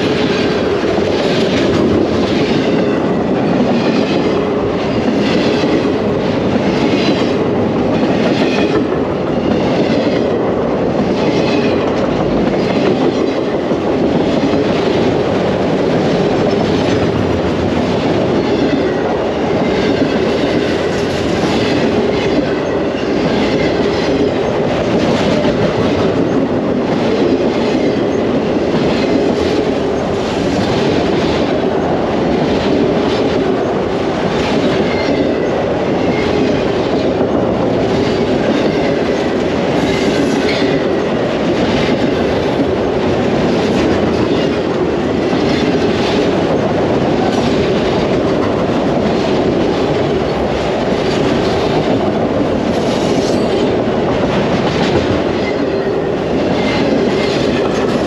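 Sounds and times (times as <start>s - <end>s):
freight train wheels clacking: 0.0s - 58.0s.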